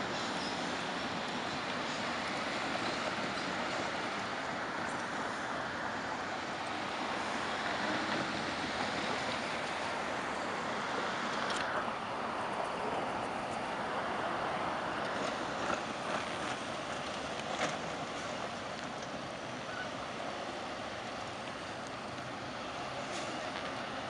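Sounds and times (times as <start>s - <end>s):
traffic tyre and road noise: 0.0s - 24.0s.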